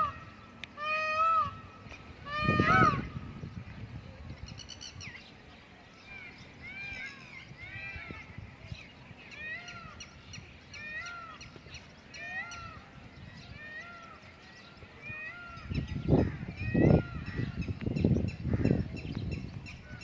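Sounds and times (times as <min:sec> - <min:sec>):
birds chirping: 0:00.0 - 0:20.0
faint low wind rumble: 0:00.0 - 0:20.0.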